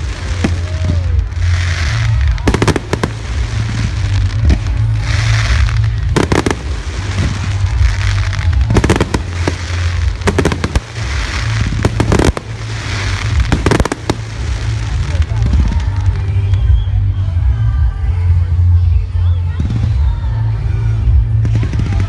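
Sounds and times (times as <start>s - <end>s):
fireworks crackling: 0.0s - 18.2s, 19.5s - 22.0s.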